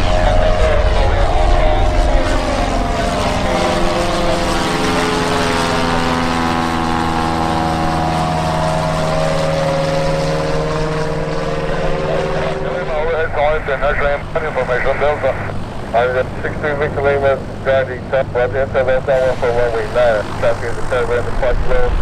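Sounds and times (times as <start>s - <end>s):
propeller plane droning overhead: 0.0s - 22.0s.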